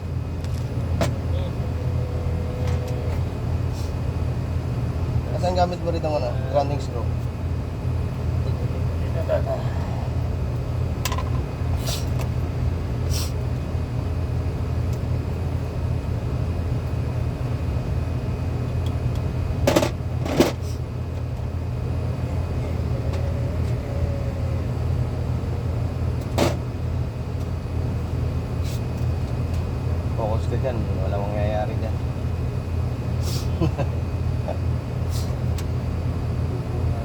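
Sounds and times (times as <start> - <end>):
machinery drone: 0.0 - 37.0.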